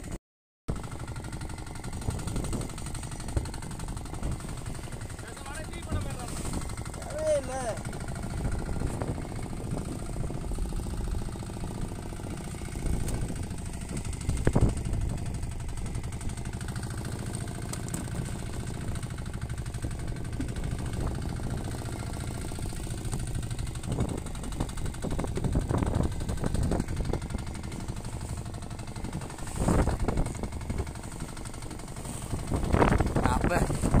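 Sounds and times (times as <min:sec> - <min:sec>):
boat engine knocking rumble: 0:00.0 - 0:34.0.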